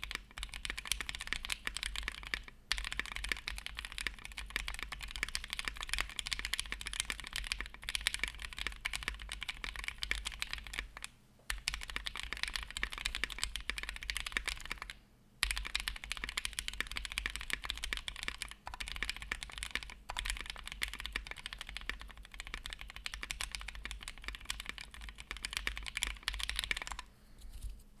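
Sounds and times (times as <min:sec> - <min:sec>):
mechanical keyboard typing: 0:00.0 - 0:27.1.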